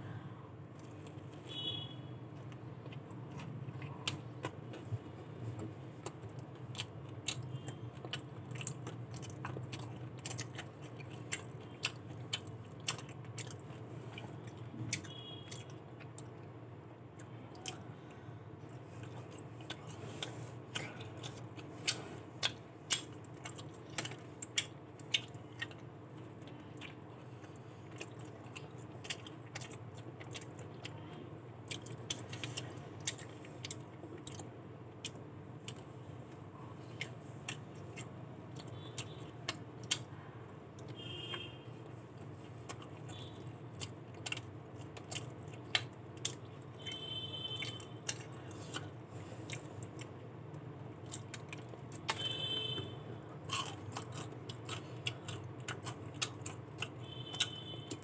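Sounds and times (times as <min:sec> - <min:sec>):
steady low hum: 0:00.0 - 0:58.0
person chewing crispy food: 0:00.7 - 0:58.0.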